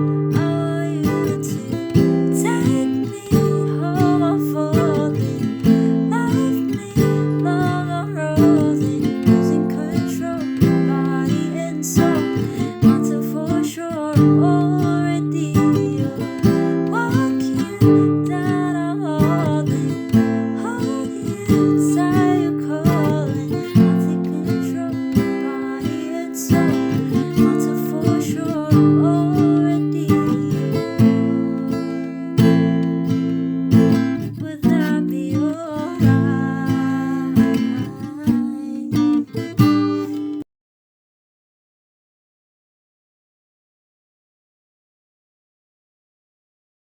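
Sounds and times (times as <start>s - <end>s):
person singing: 0.0s - 32.7s, 34.2s - 39.3s
acoustic guitar strumming chords: 0.0s - 40.4s.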